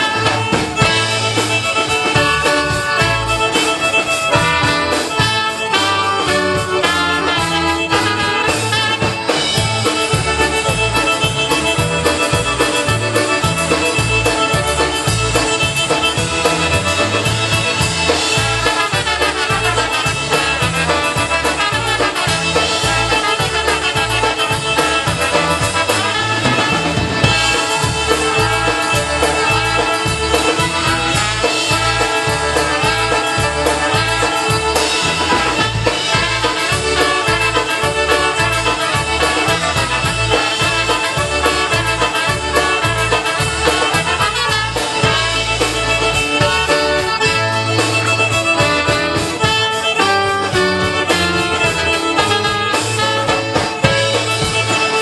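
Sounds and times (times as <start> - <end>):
polka band playing: 0.0 - 55.0.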